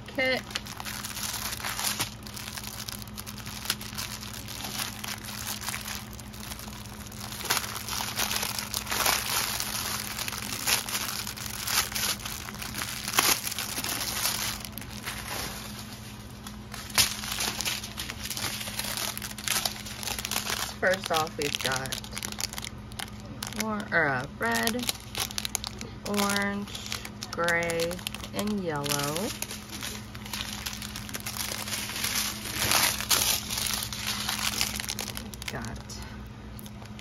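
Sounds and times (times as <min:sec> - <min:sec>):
plastic bags crinkling: 0:00.1 - 0:37.0.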